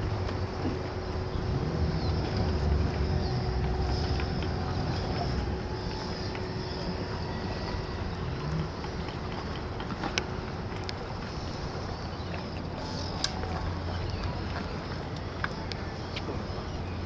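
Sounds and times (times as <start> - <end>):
boat engine rumble: 0.0 - 17.0
faint steady hum: 0.0 - 17.0.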